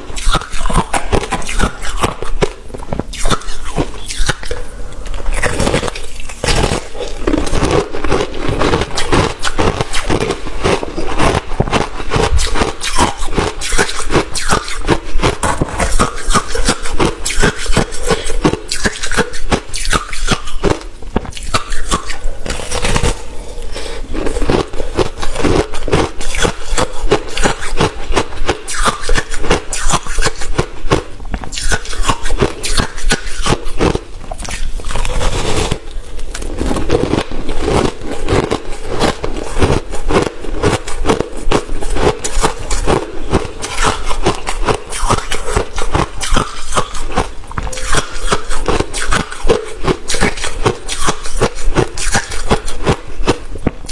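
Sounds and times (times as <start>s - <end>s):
ice being chewed with crunches: 0.0s - 53.9s.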